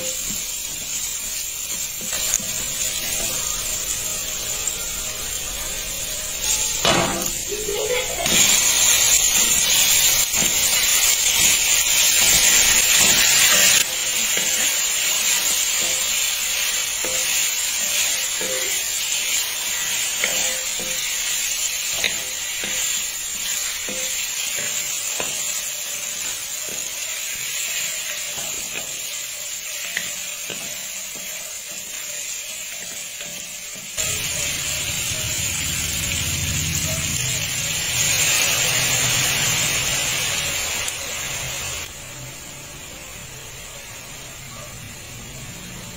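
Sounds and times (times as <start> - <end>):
food sizzling in oil: 0.0 - 45.9.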